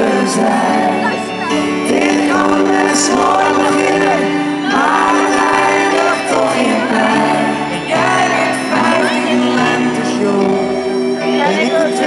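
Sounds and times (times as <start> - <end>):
acoustic guitar: 0.0 - 12.0
keyboard: 0.0 - 12.0
man singing: 0.0 - 12.0.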